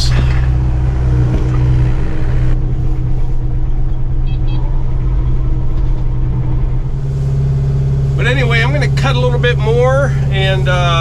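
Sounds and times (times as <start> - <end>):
heavy equipment engine droning: 0.0 - 11.0.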